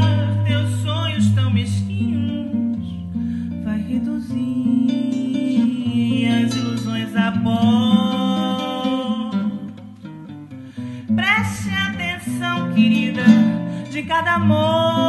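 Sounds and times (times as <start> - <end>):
acoustic guitar bass notes and chords: 0.0 - 15.0.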